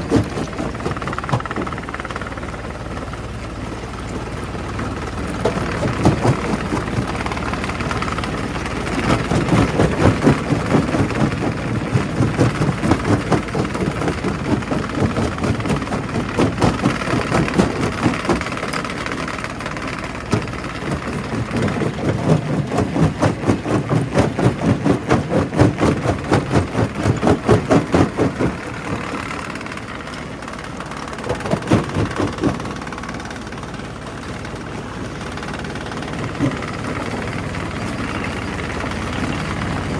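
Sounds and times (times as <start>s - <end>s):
fast rhythmic knocking: 0.0s - 39.9s
rock crusher machine drone: 0.0s - 39.9s.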